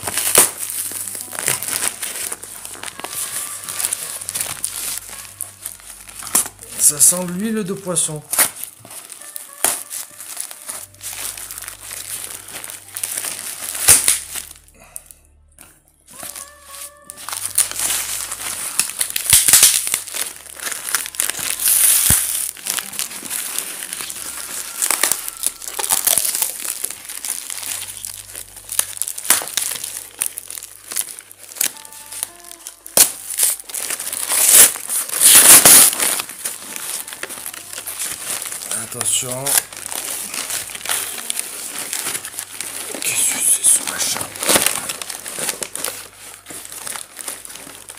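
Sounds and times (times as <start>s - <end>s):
paper and tape tearing and crumpling: 0.0s - 14.8s, 16.1s - 47.9s.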